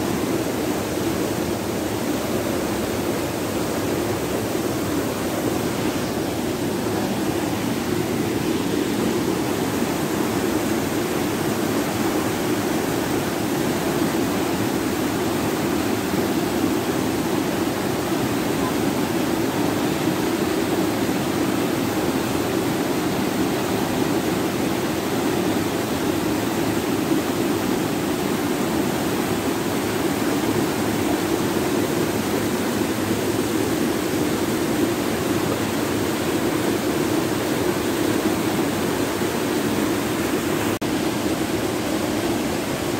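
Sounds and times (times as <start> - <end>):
rushing floodwater: 0.0 - 42.9.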